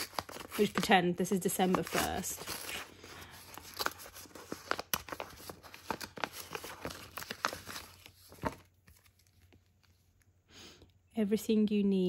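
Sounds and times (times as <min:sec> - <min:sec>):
paper wrapping torn and crinkled: 0:00.0 - 0:10.0.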